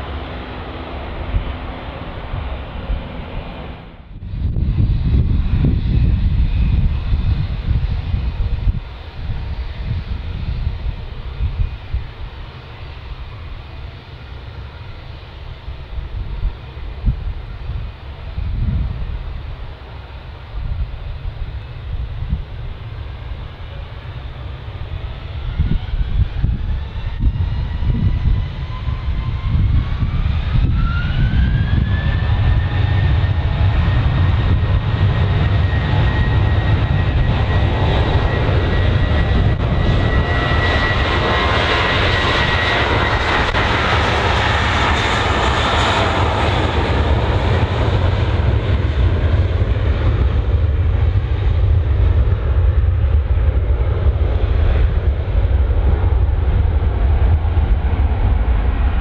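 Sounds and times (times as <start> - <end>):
jet engines spooling up: 0.0 - 59.0.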